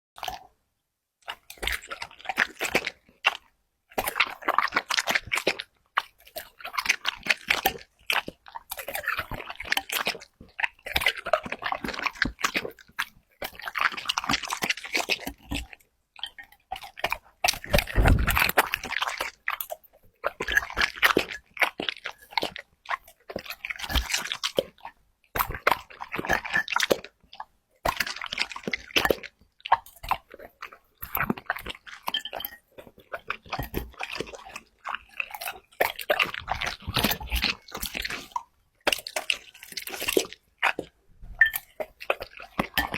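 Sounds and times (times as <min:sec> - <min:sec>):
dog crunching food: 0:00.2 - 0:00.4, 0:01.2 - 0:42.9.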